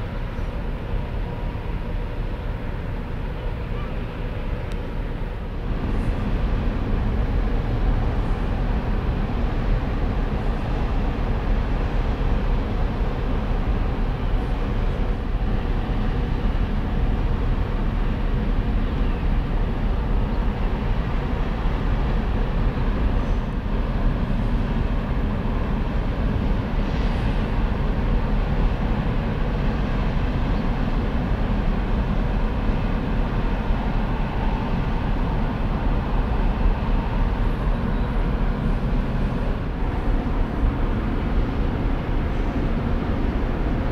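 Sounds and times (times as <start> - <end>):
ship diesel engines rumbling: 0.0 - 43.9.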